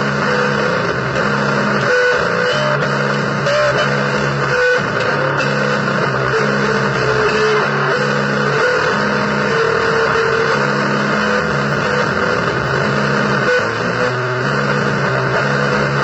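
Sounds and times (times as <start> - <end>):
distorted electric guitar drone: 0.0 - 16.0.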